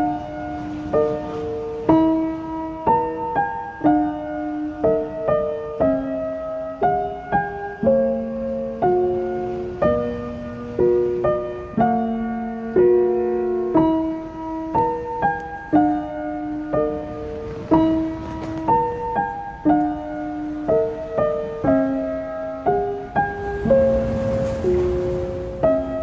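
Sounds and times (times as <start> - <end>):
soft piano music: 0.0 - 26.0.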